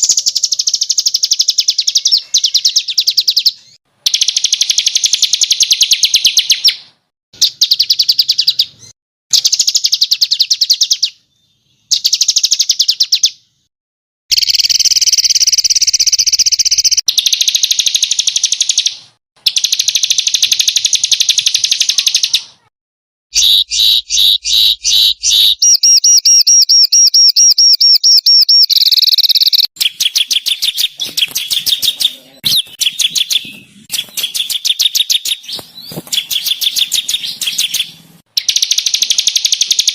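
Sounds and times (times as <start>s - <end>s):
songbirds singing rapid harsh trills: 0.0s - 13.7s, 14.3s - 22.7s, 23.4s - 39.9s.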